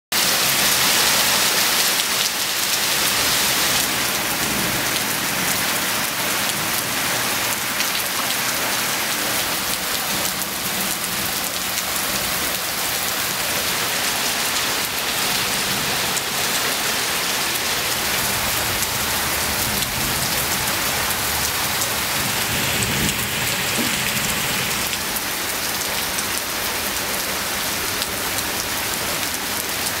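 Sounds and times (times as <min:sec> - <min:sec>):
heavy rain on pavement: 0:00.1 - 0:30.0.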